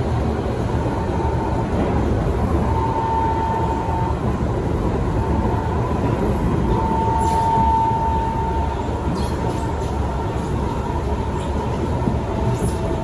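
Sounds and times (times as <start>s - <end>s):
high whine: 0.0s - 13.0s
train wheels rumbling: 0.0s - 13.0s.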